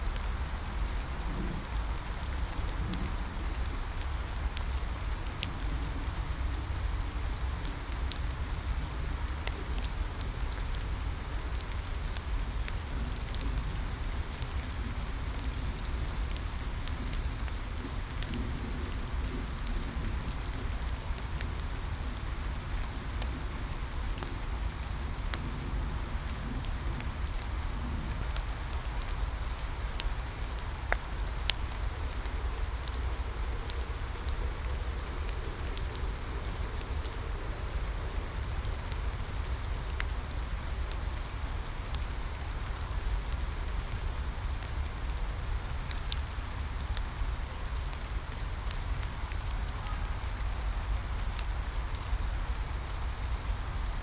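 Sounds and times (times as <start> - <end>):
crackling wood fire: 0.0 - 54.0
steady rain falling: 0.0 - 54.0.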